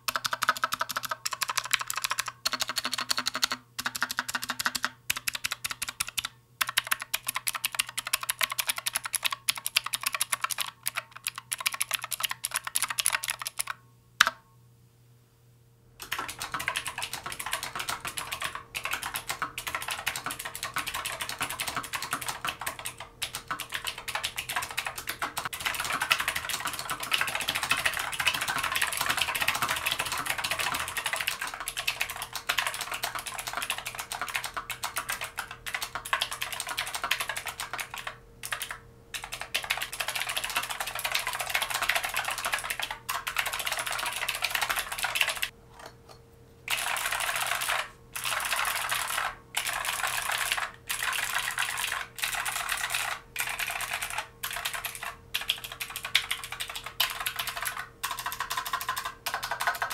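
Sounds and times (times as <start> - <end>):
mechanical keyboard typing: 0.0 - 14.4, 16.0 - 45.6, 46.7 - 59.9.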